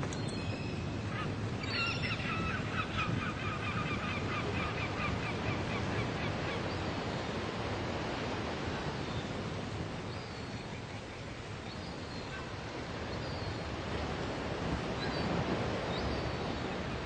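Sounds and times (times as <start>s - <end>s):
sea surf: 0.0s - 17.0s.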